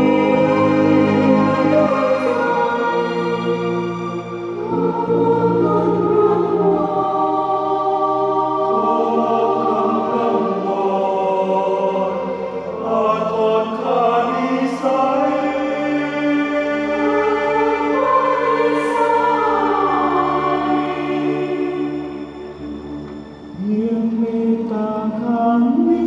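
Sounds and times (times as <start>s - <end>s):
mixed choir singing chords: 0.0s - 26.0s.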